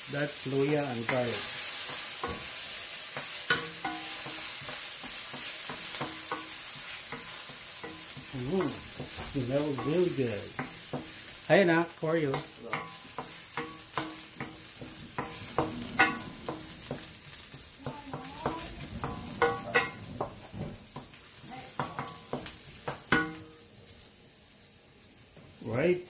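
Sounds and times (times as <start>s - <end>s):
garlic sizzling in oil: 0.0s - 26.0s
wooden spoon scraping wok: 0.4s - 24.1s.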